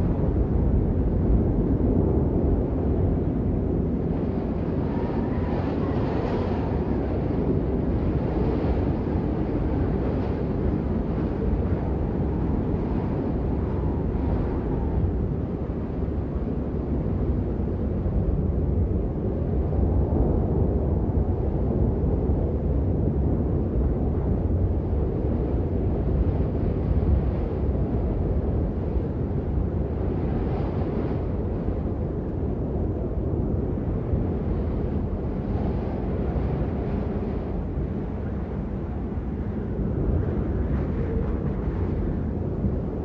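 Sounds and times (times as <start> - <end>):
gusting snowstorm wind: 0.0 - 43.0.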